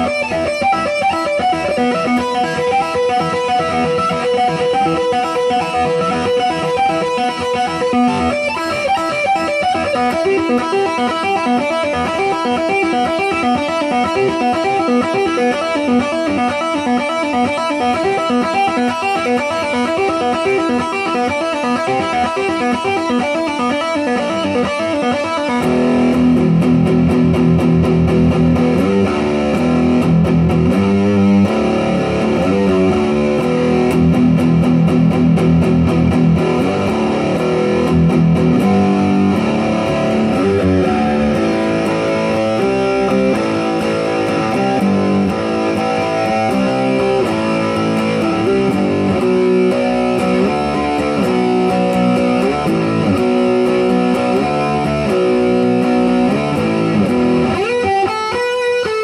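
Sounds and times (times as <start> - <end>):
electric guitar metal riff: 0.0 - 59.0.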